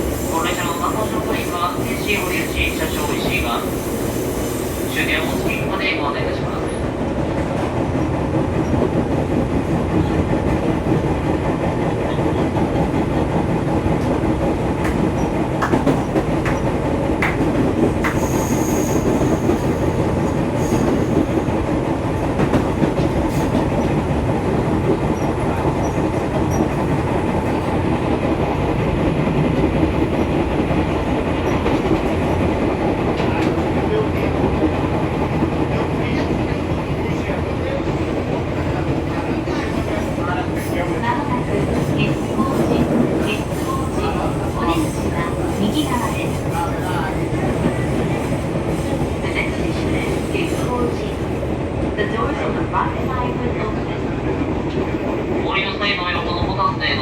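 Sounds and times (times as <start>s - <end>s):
train wheels rumbling on rail: 0.0s - 57.0s
clickety-clack over rail joints: 5.4s - 56.8s.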